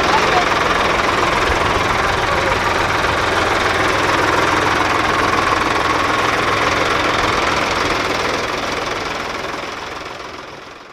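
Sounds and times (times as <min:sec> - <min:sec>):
tractor diesel engine clattering: 0:00.0 - 0:10.9.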